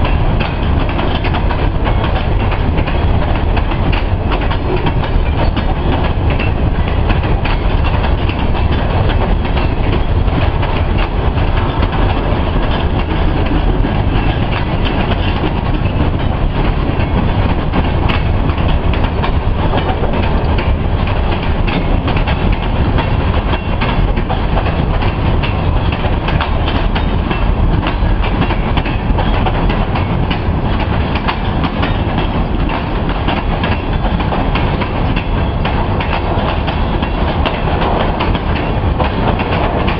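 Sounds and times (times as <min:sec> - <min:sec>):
freight train rumbling past: 0:00.0 - 0:39.9
steel wheels clacking on rail joints: 0:00.0 - 0:39.9.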